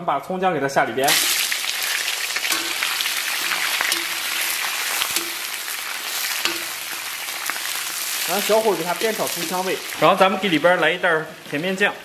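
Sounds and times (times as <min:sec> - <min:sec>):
food sizzling in a wok: 0:01.0 - 0:12.0
spatula stir-frying: 0:01.0 - 0:12.0.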